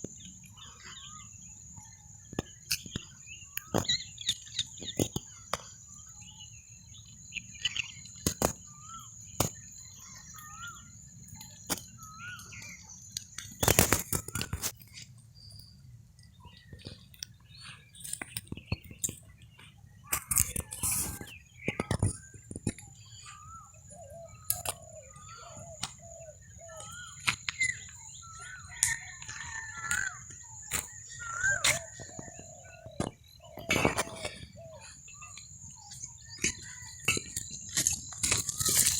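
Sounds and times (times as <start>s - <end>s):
birds warbling and chirping: 0.0s - 38.9s.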